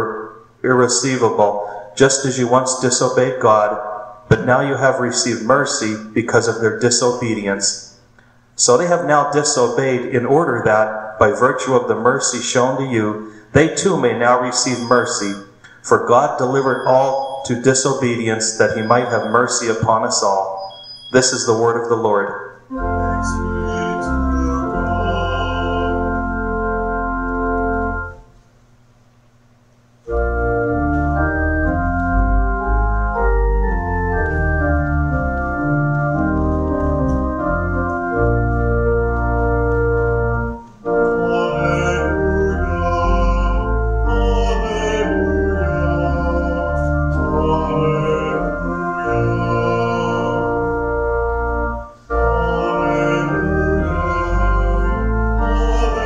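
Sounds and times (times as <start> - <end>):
church organ playing chords: 0.0 - 7.7, 8.6 - 28.4, 30.1 - 56.0.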